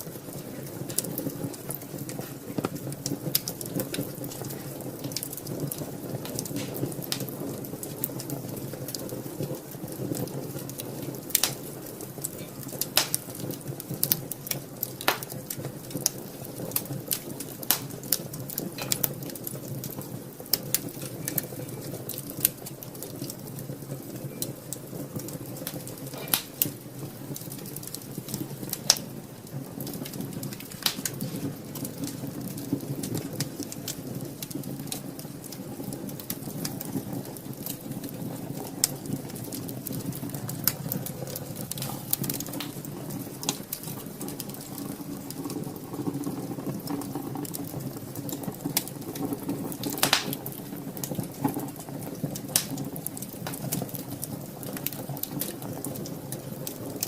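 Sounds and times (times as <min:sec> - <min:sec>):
wood fire crackling in fireplace: 0:00.0 - 0:57.0.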